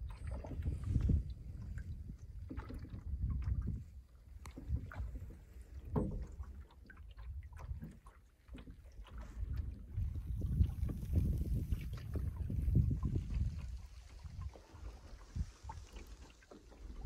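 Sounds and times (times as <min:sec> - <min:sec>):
water splashing around a canoe: 0:00.0 - 0:17.0
wind on microphone: 0:00.0 - 0:17.0.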